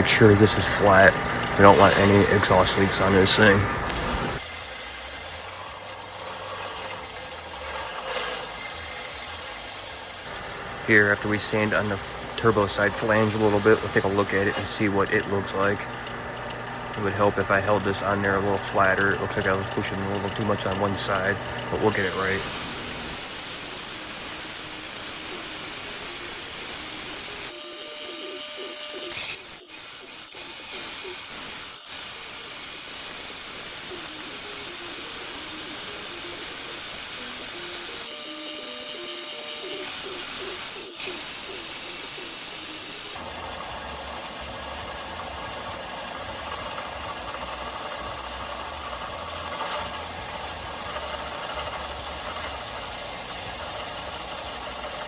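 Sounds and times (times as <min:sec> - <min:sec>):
belt sander grinding metal: 0:00.0 - 0:55.0.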